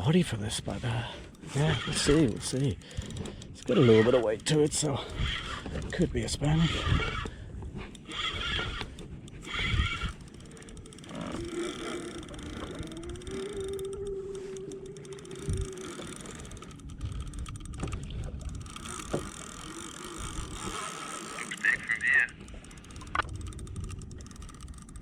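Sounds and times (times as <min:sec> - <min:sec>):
fishing reel gears whining: 0:00.0 - 0:25.0.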